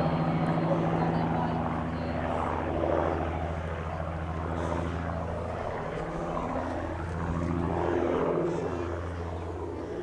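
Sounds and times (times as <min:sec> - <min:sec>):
propeller engine drone: 0:00.0 - 0:10.0.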